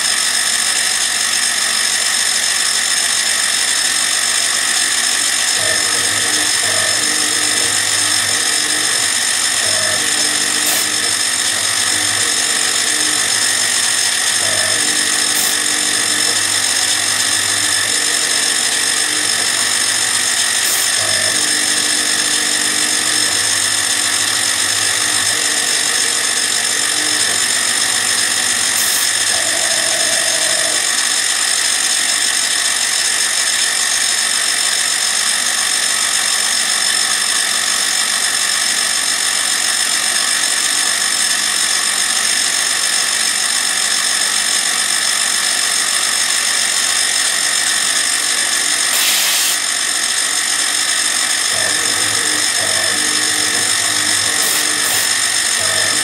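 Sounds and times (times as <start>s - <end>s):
end mill cutting aluminum: 0.0s - 56.0s
milling machine high-pitched whine: 0.0s - 56.0s.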